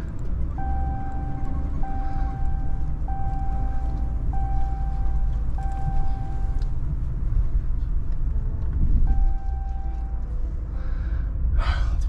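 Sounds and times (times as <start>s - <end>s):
flat steady tone: 0.0s - 10.7s
truck engine and tyres rumbling: 0.0s - 12.0s.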